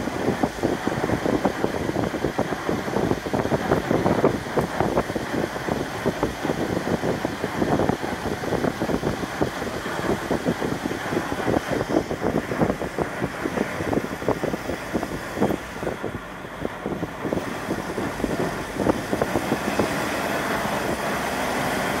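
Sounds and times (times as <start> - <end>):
road and tyre noise in car: 0.0 - 22.0.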